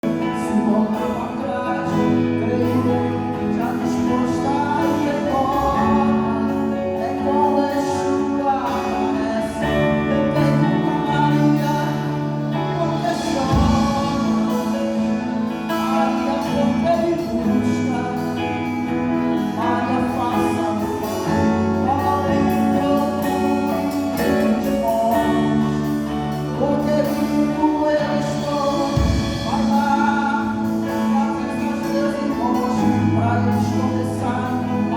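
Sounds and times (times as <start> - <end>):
gospel band playing: 0.0 - 34.9.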